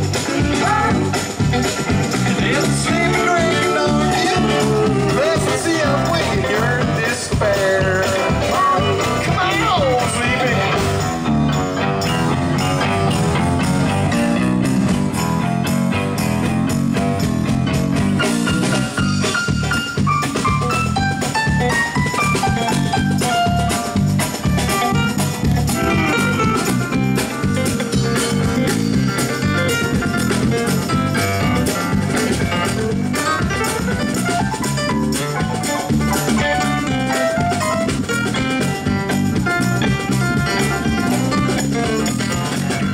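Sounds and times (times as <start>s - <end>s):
drum kit beat: 0.0s - 42.9s
electric guitars: 0.0s - 42.9s
keyboard lead melody: 0.0s - 42.9s.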